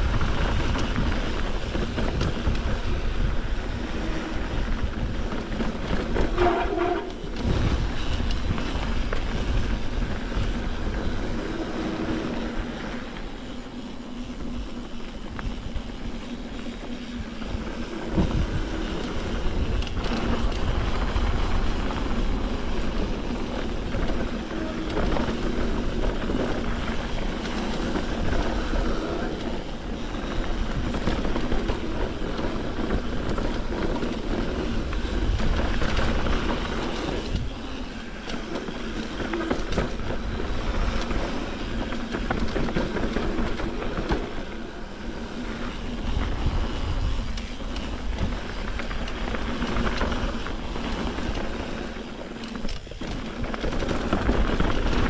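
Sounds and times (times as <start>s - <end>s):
bike rattling: 0.0s - 55.0s
tyres rolling over rough ground: 0.0s - 55.0s
wind rushing over microphone: 0.0s - 55.0s.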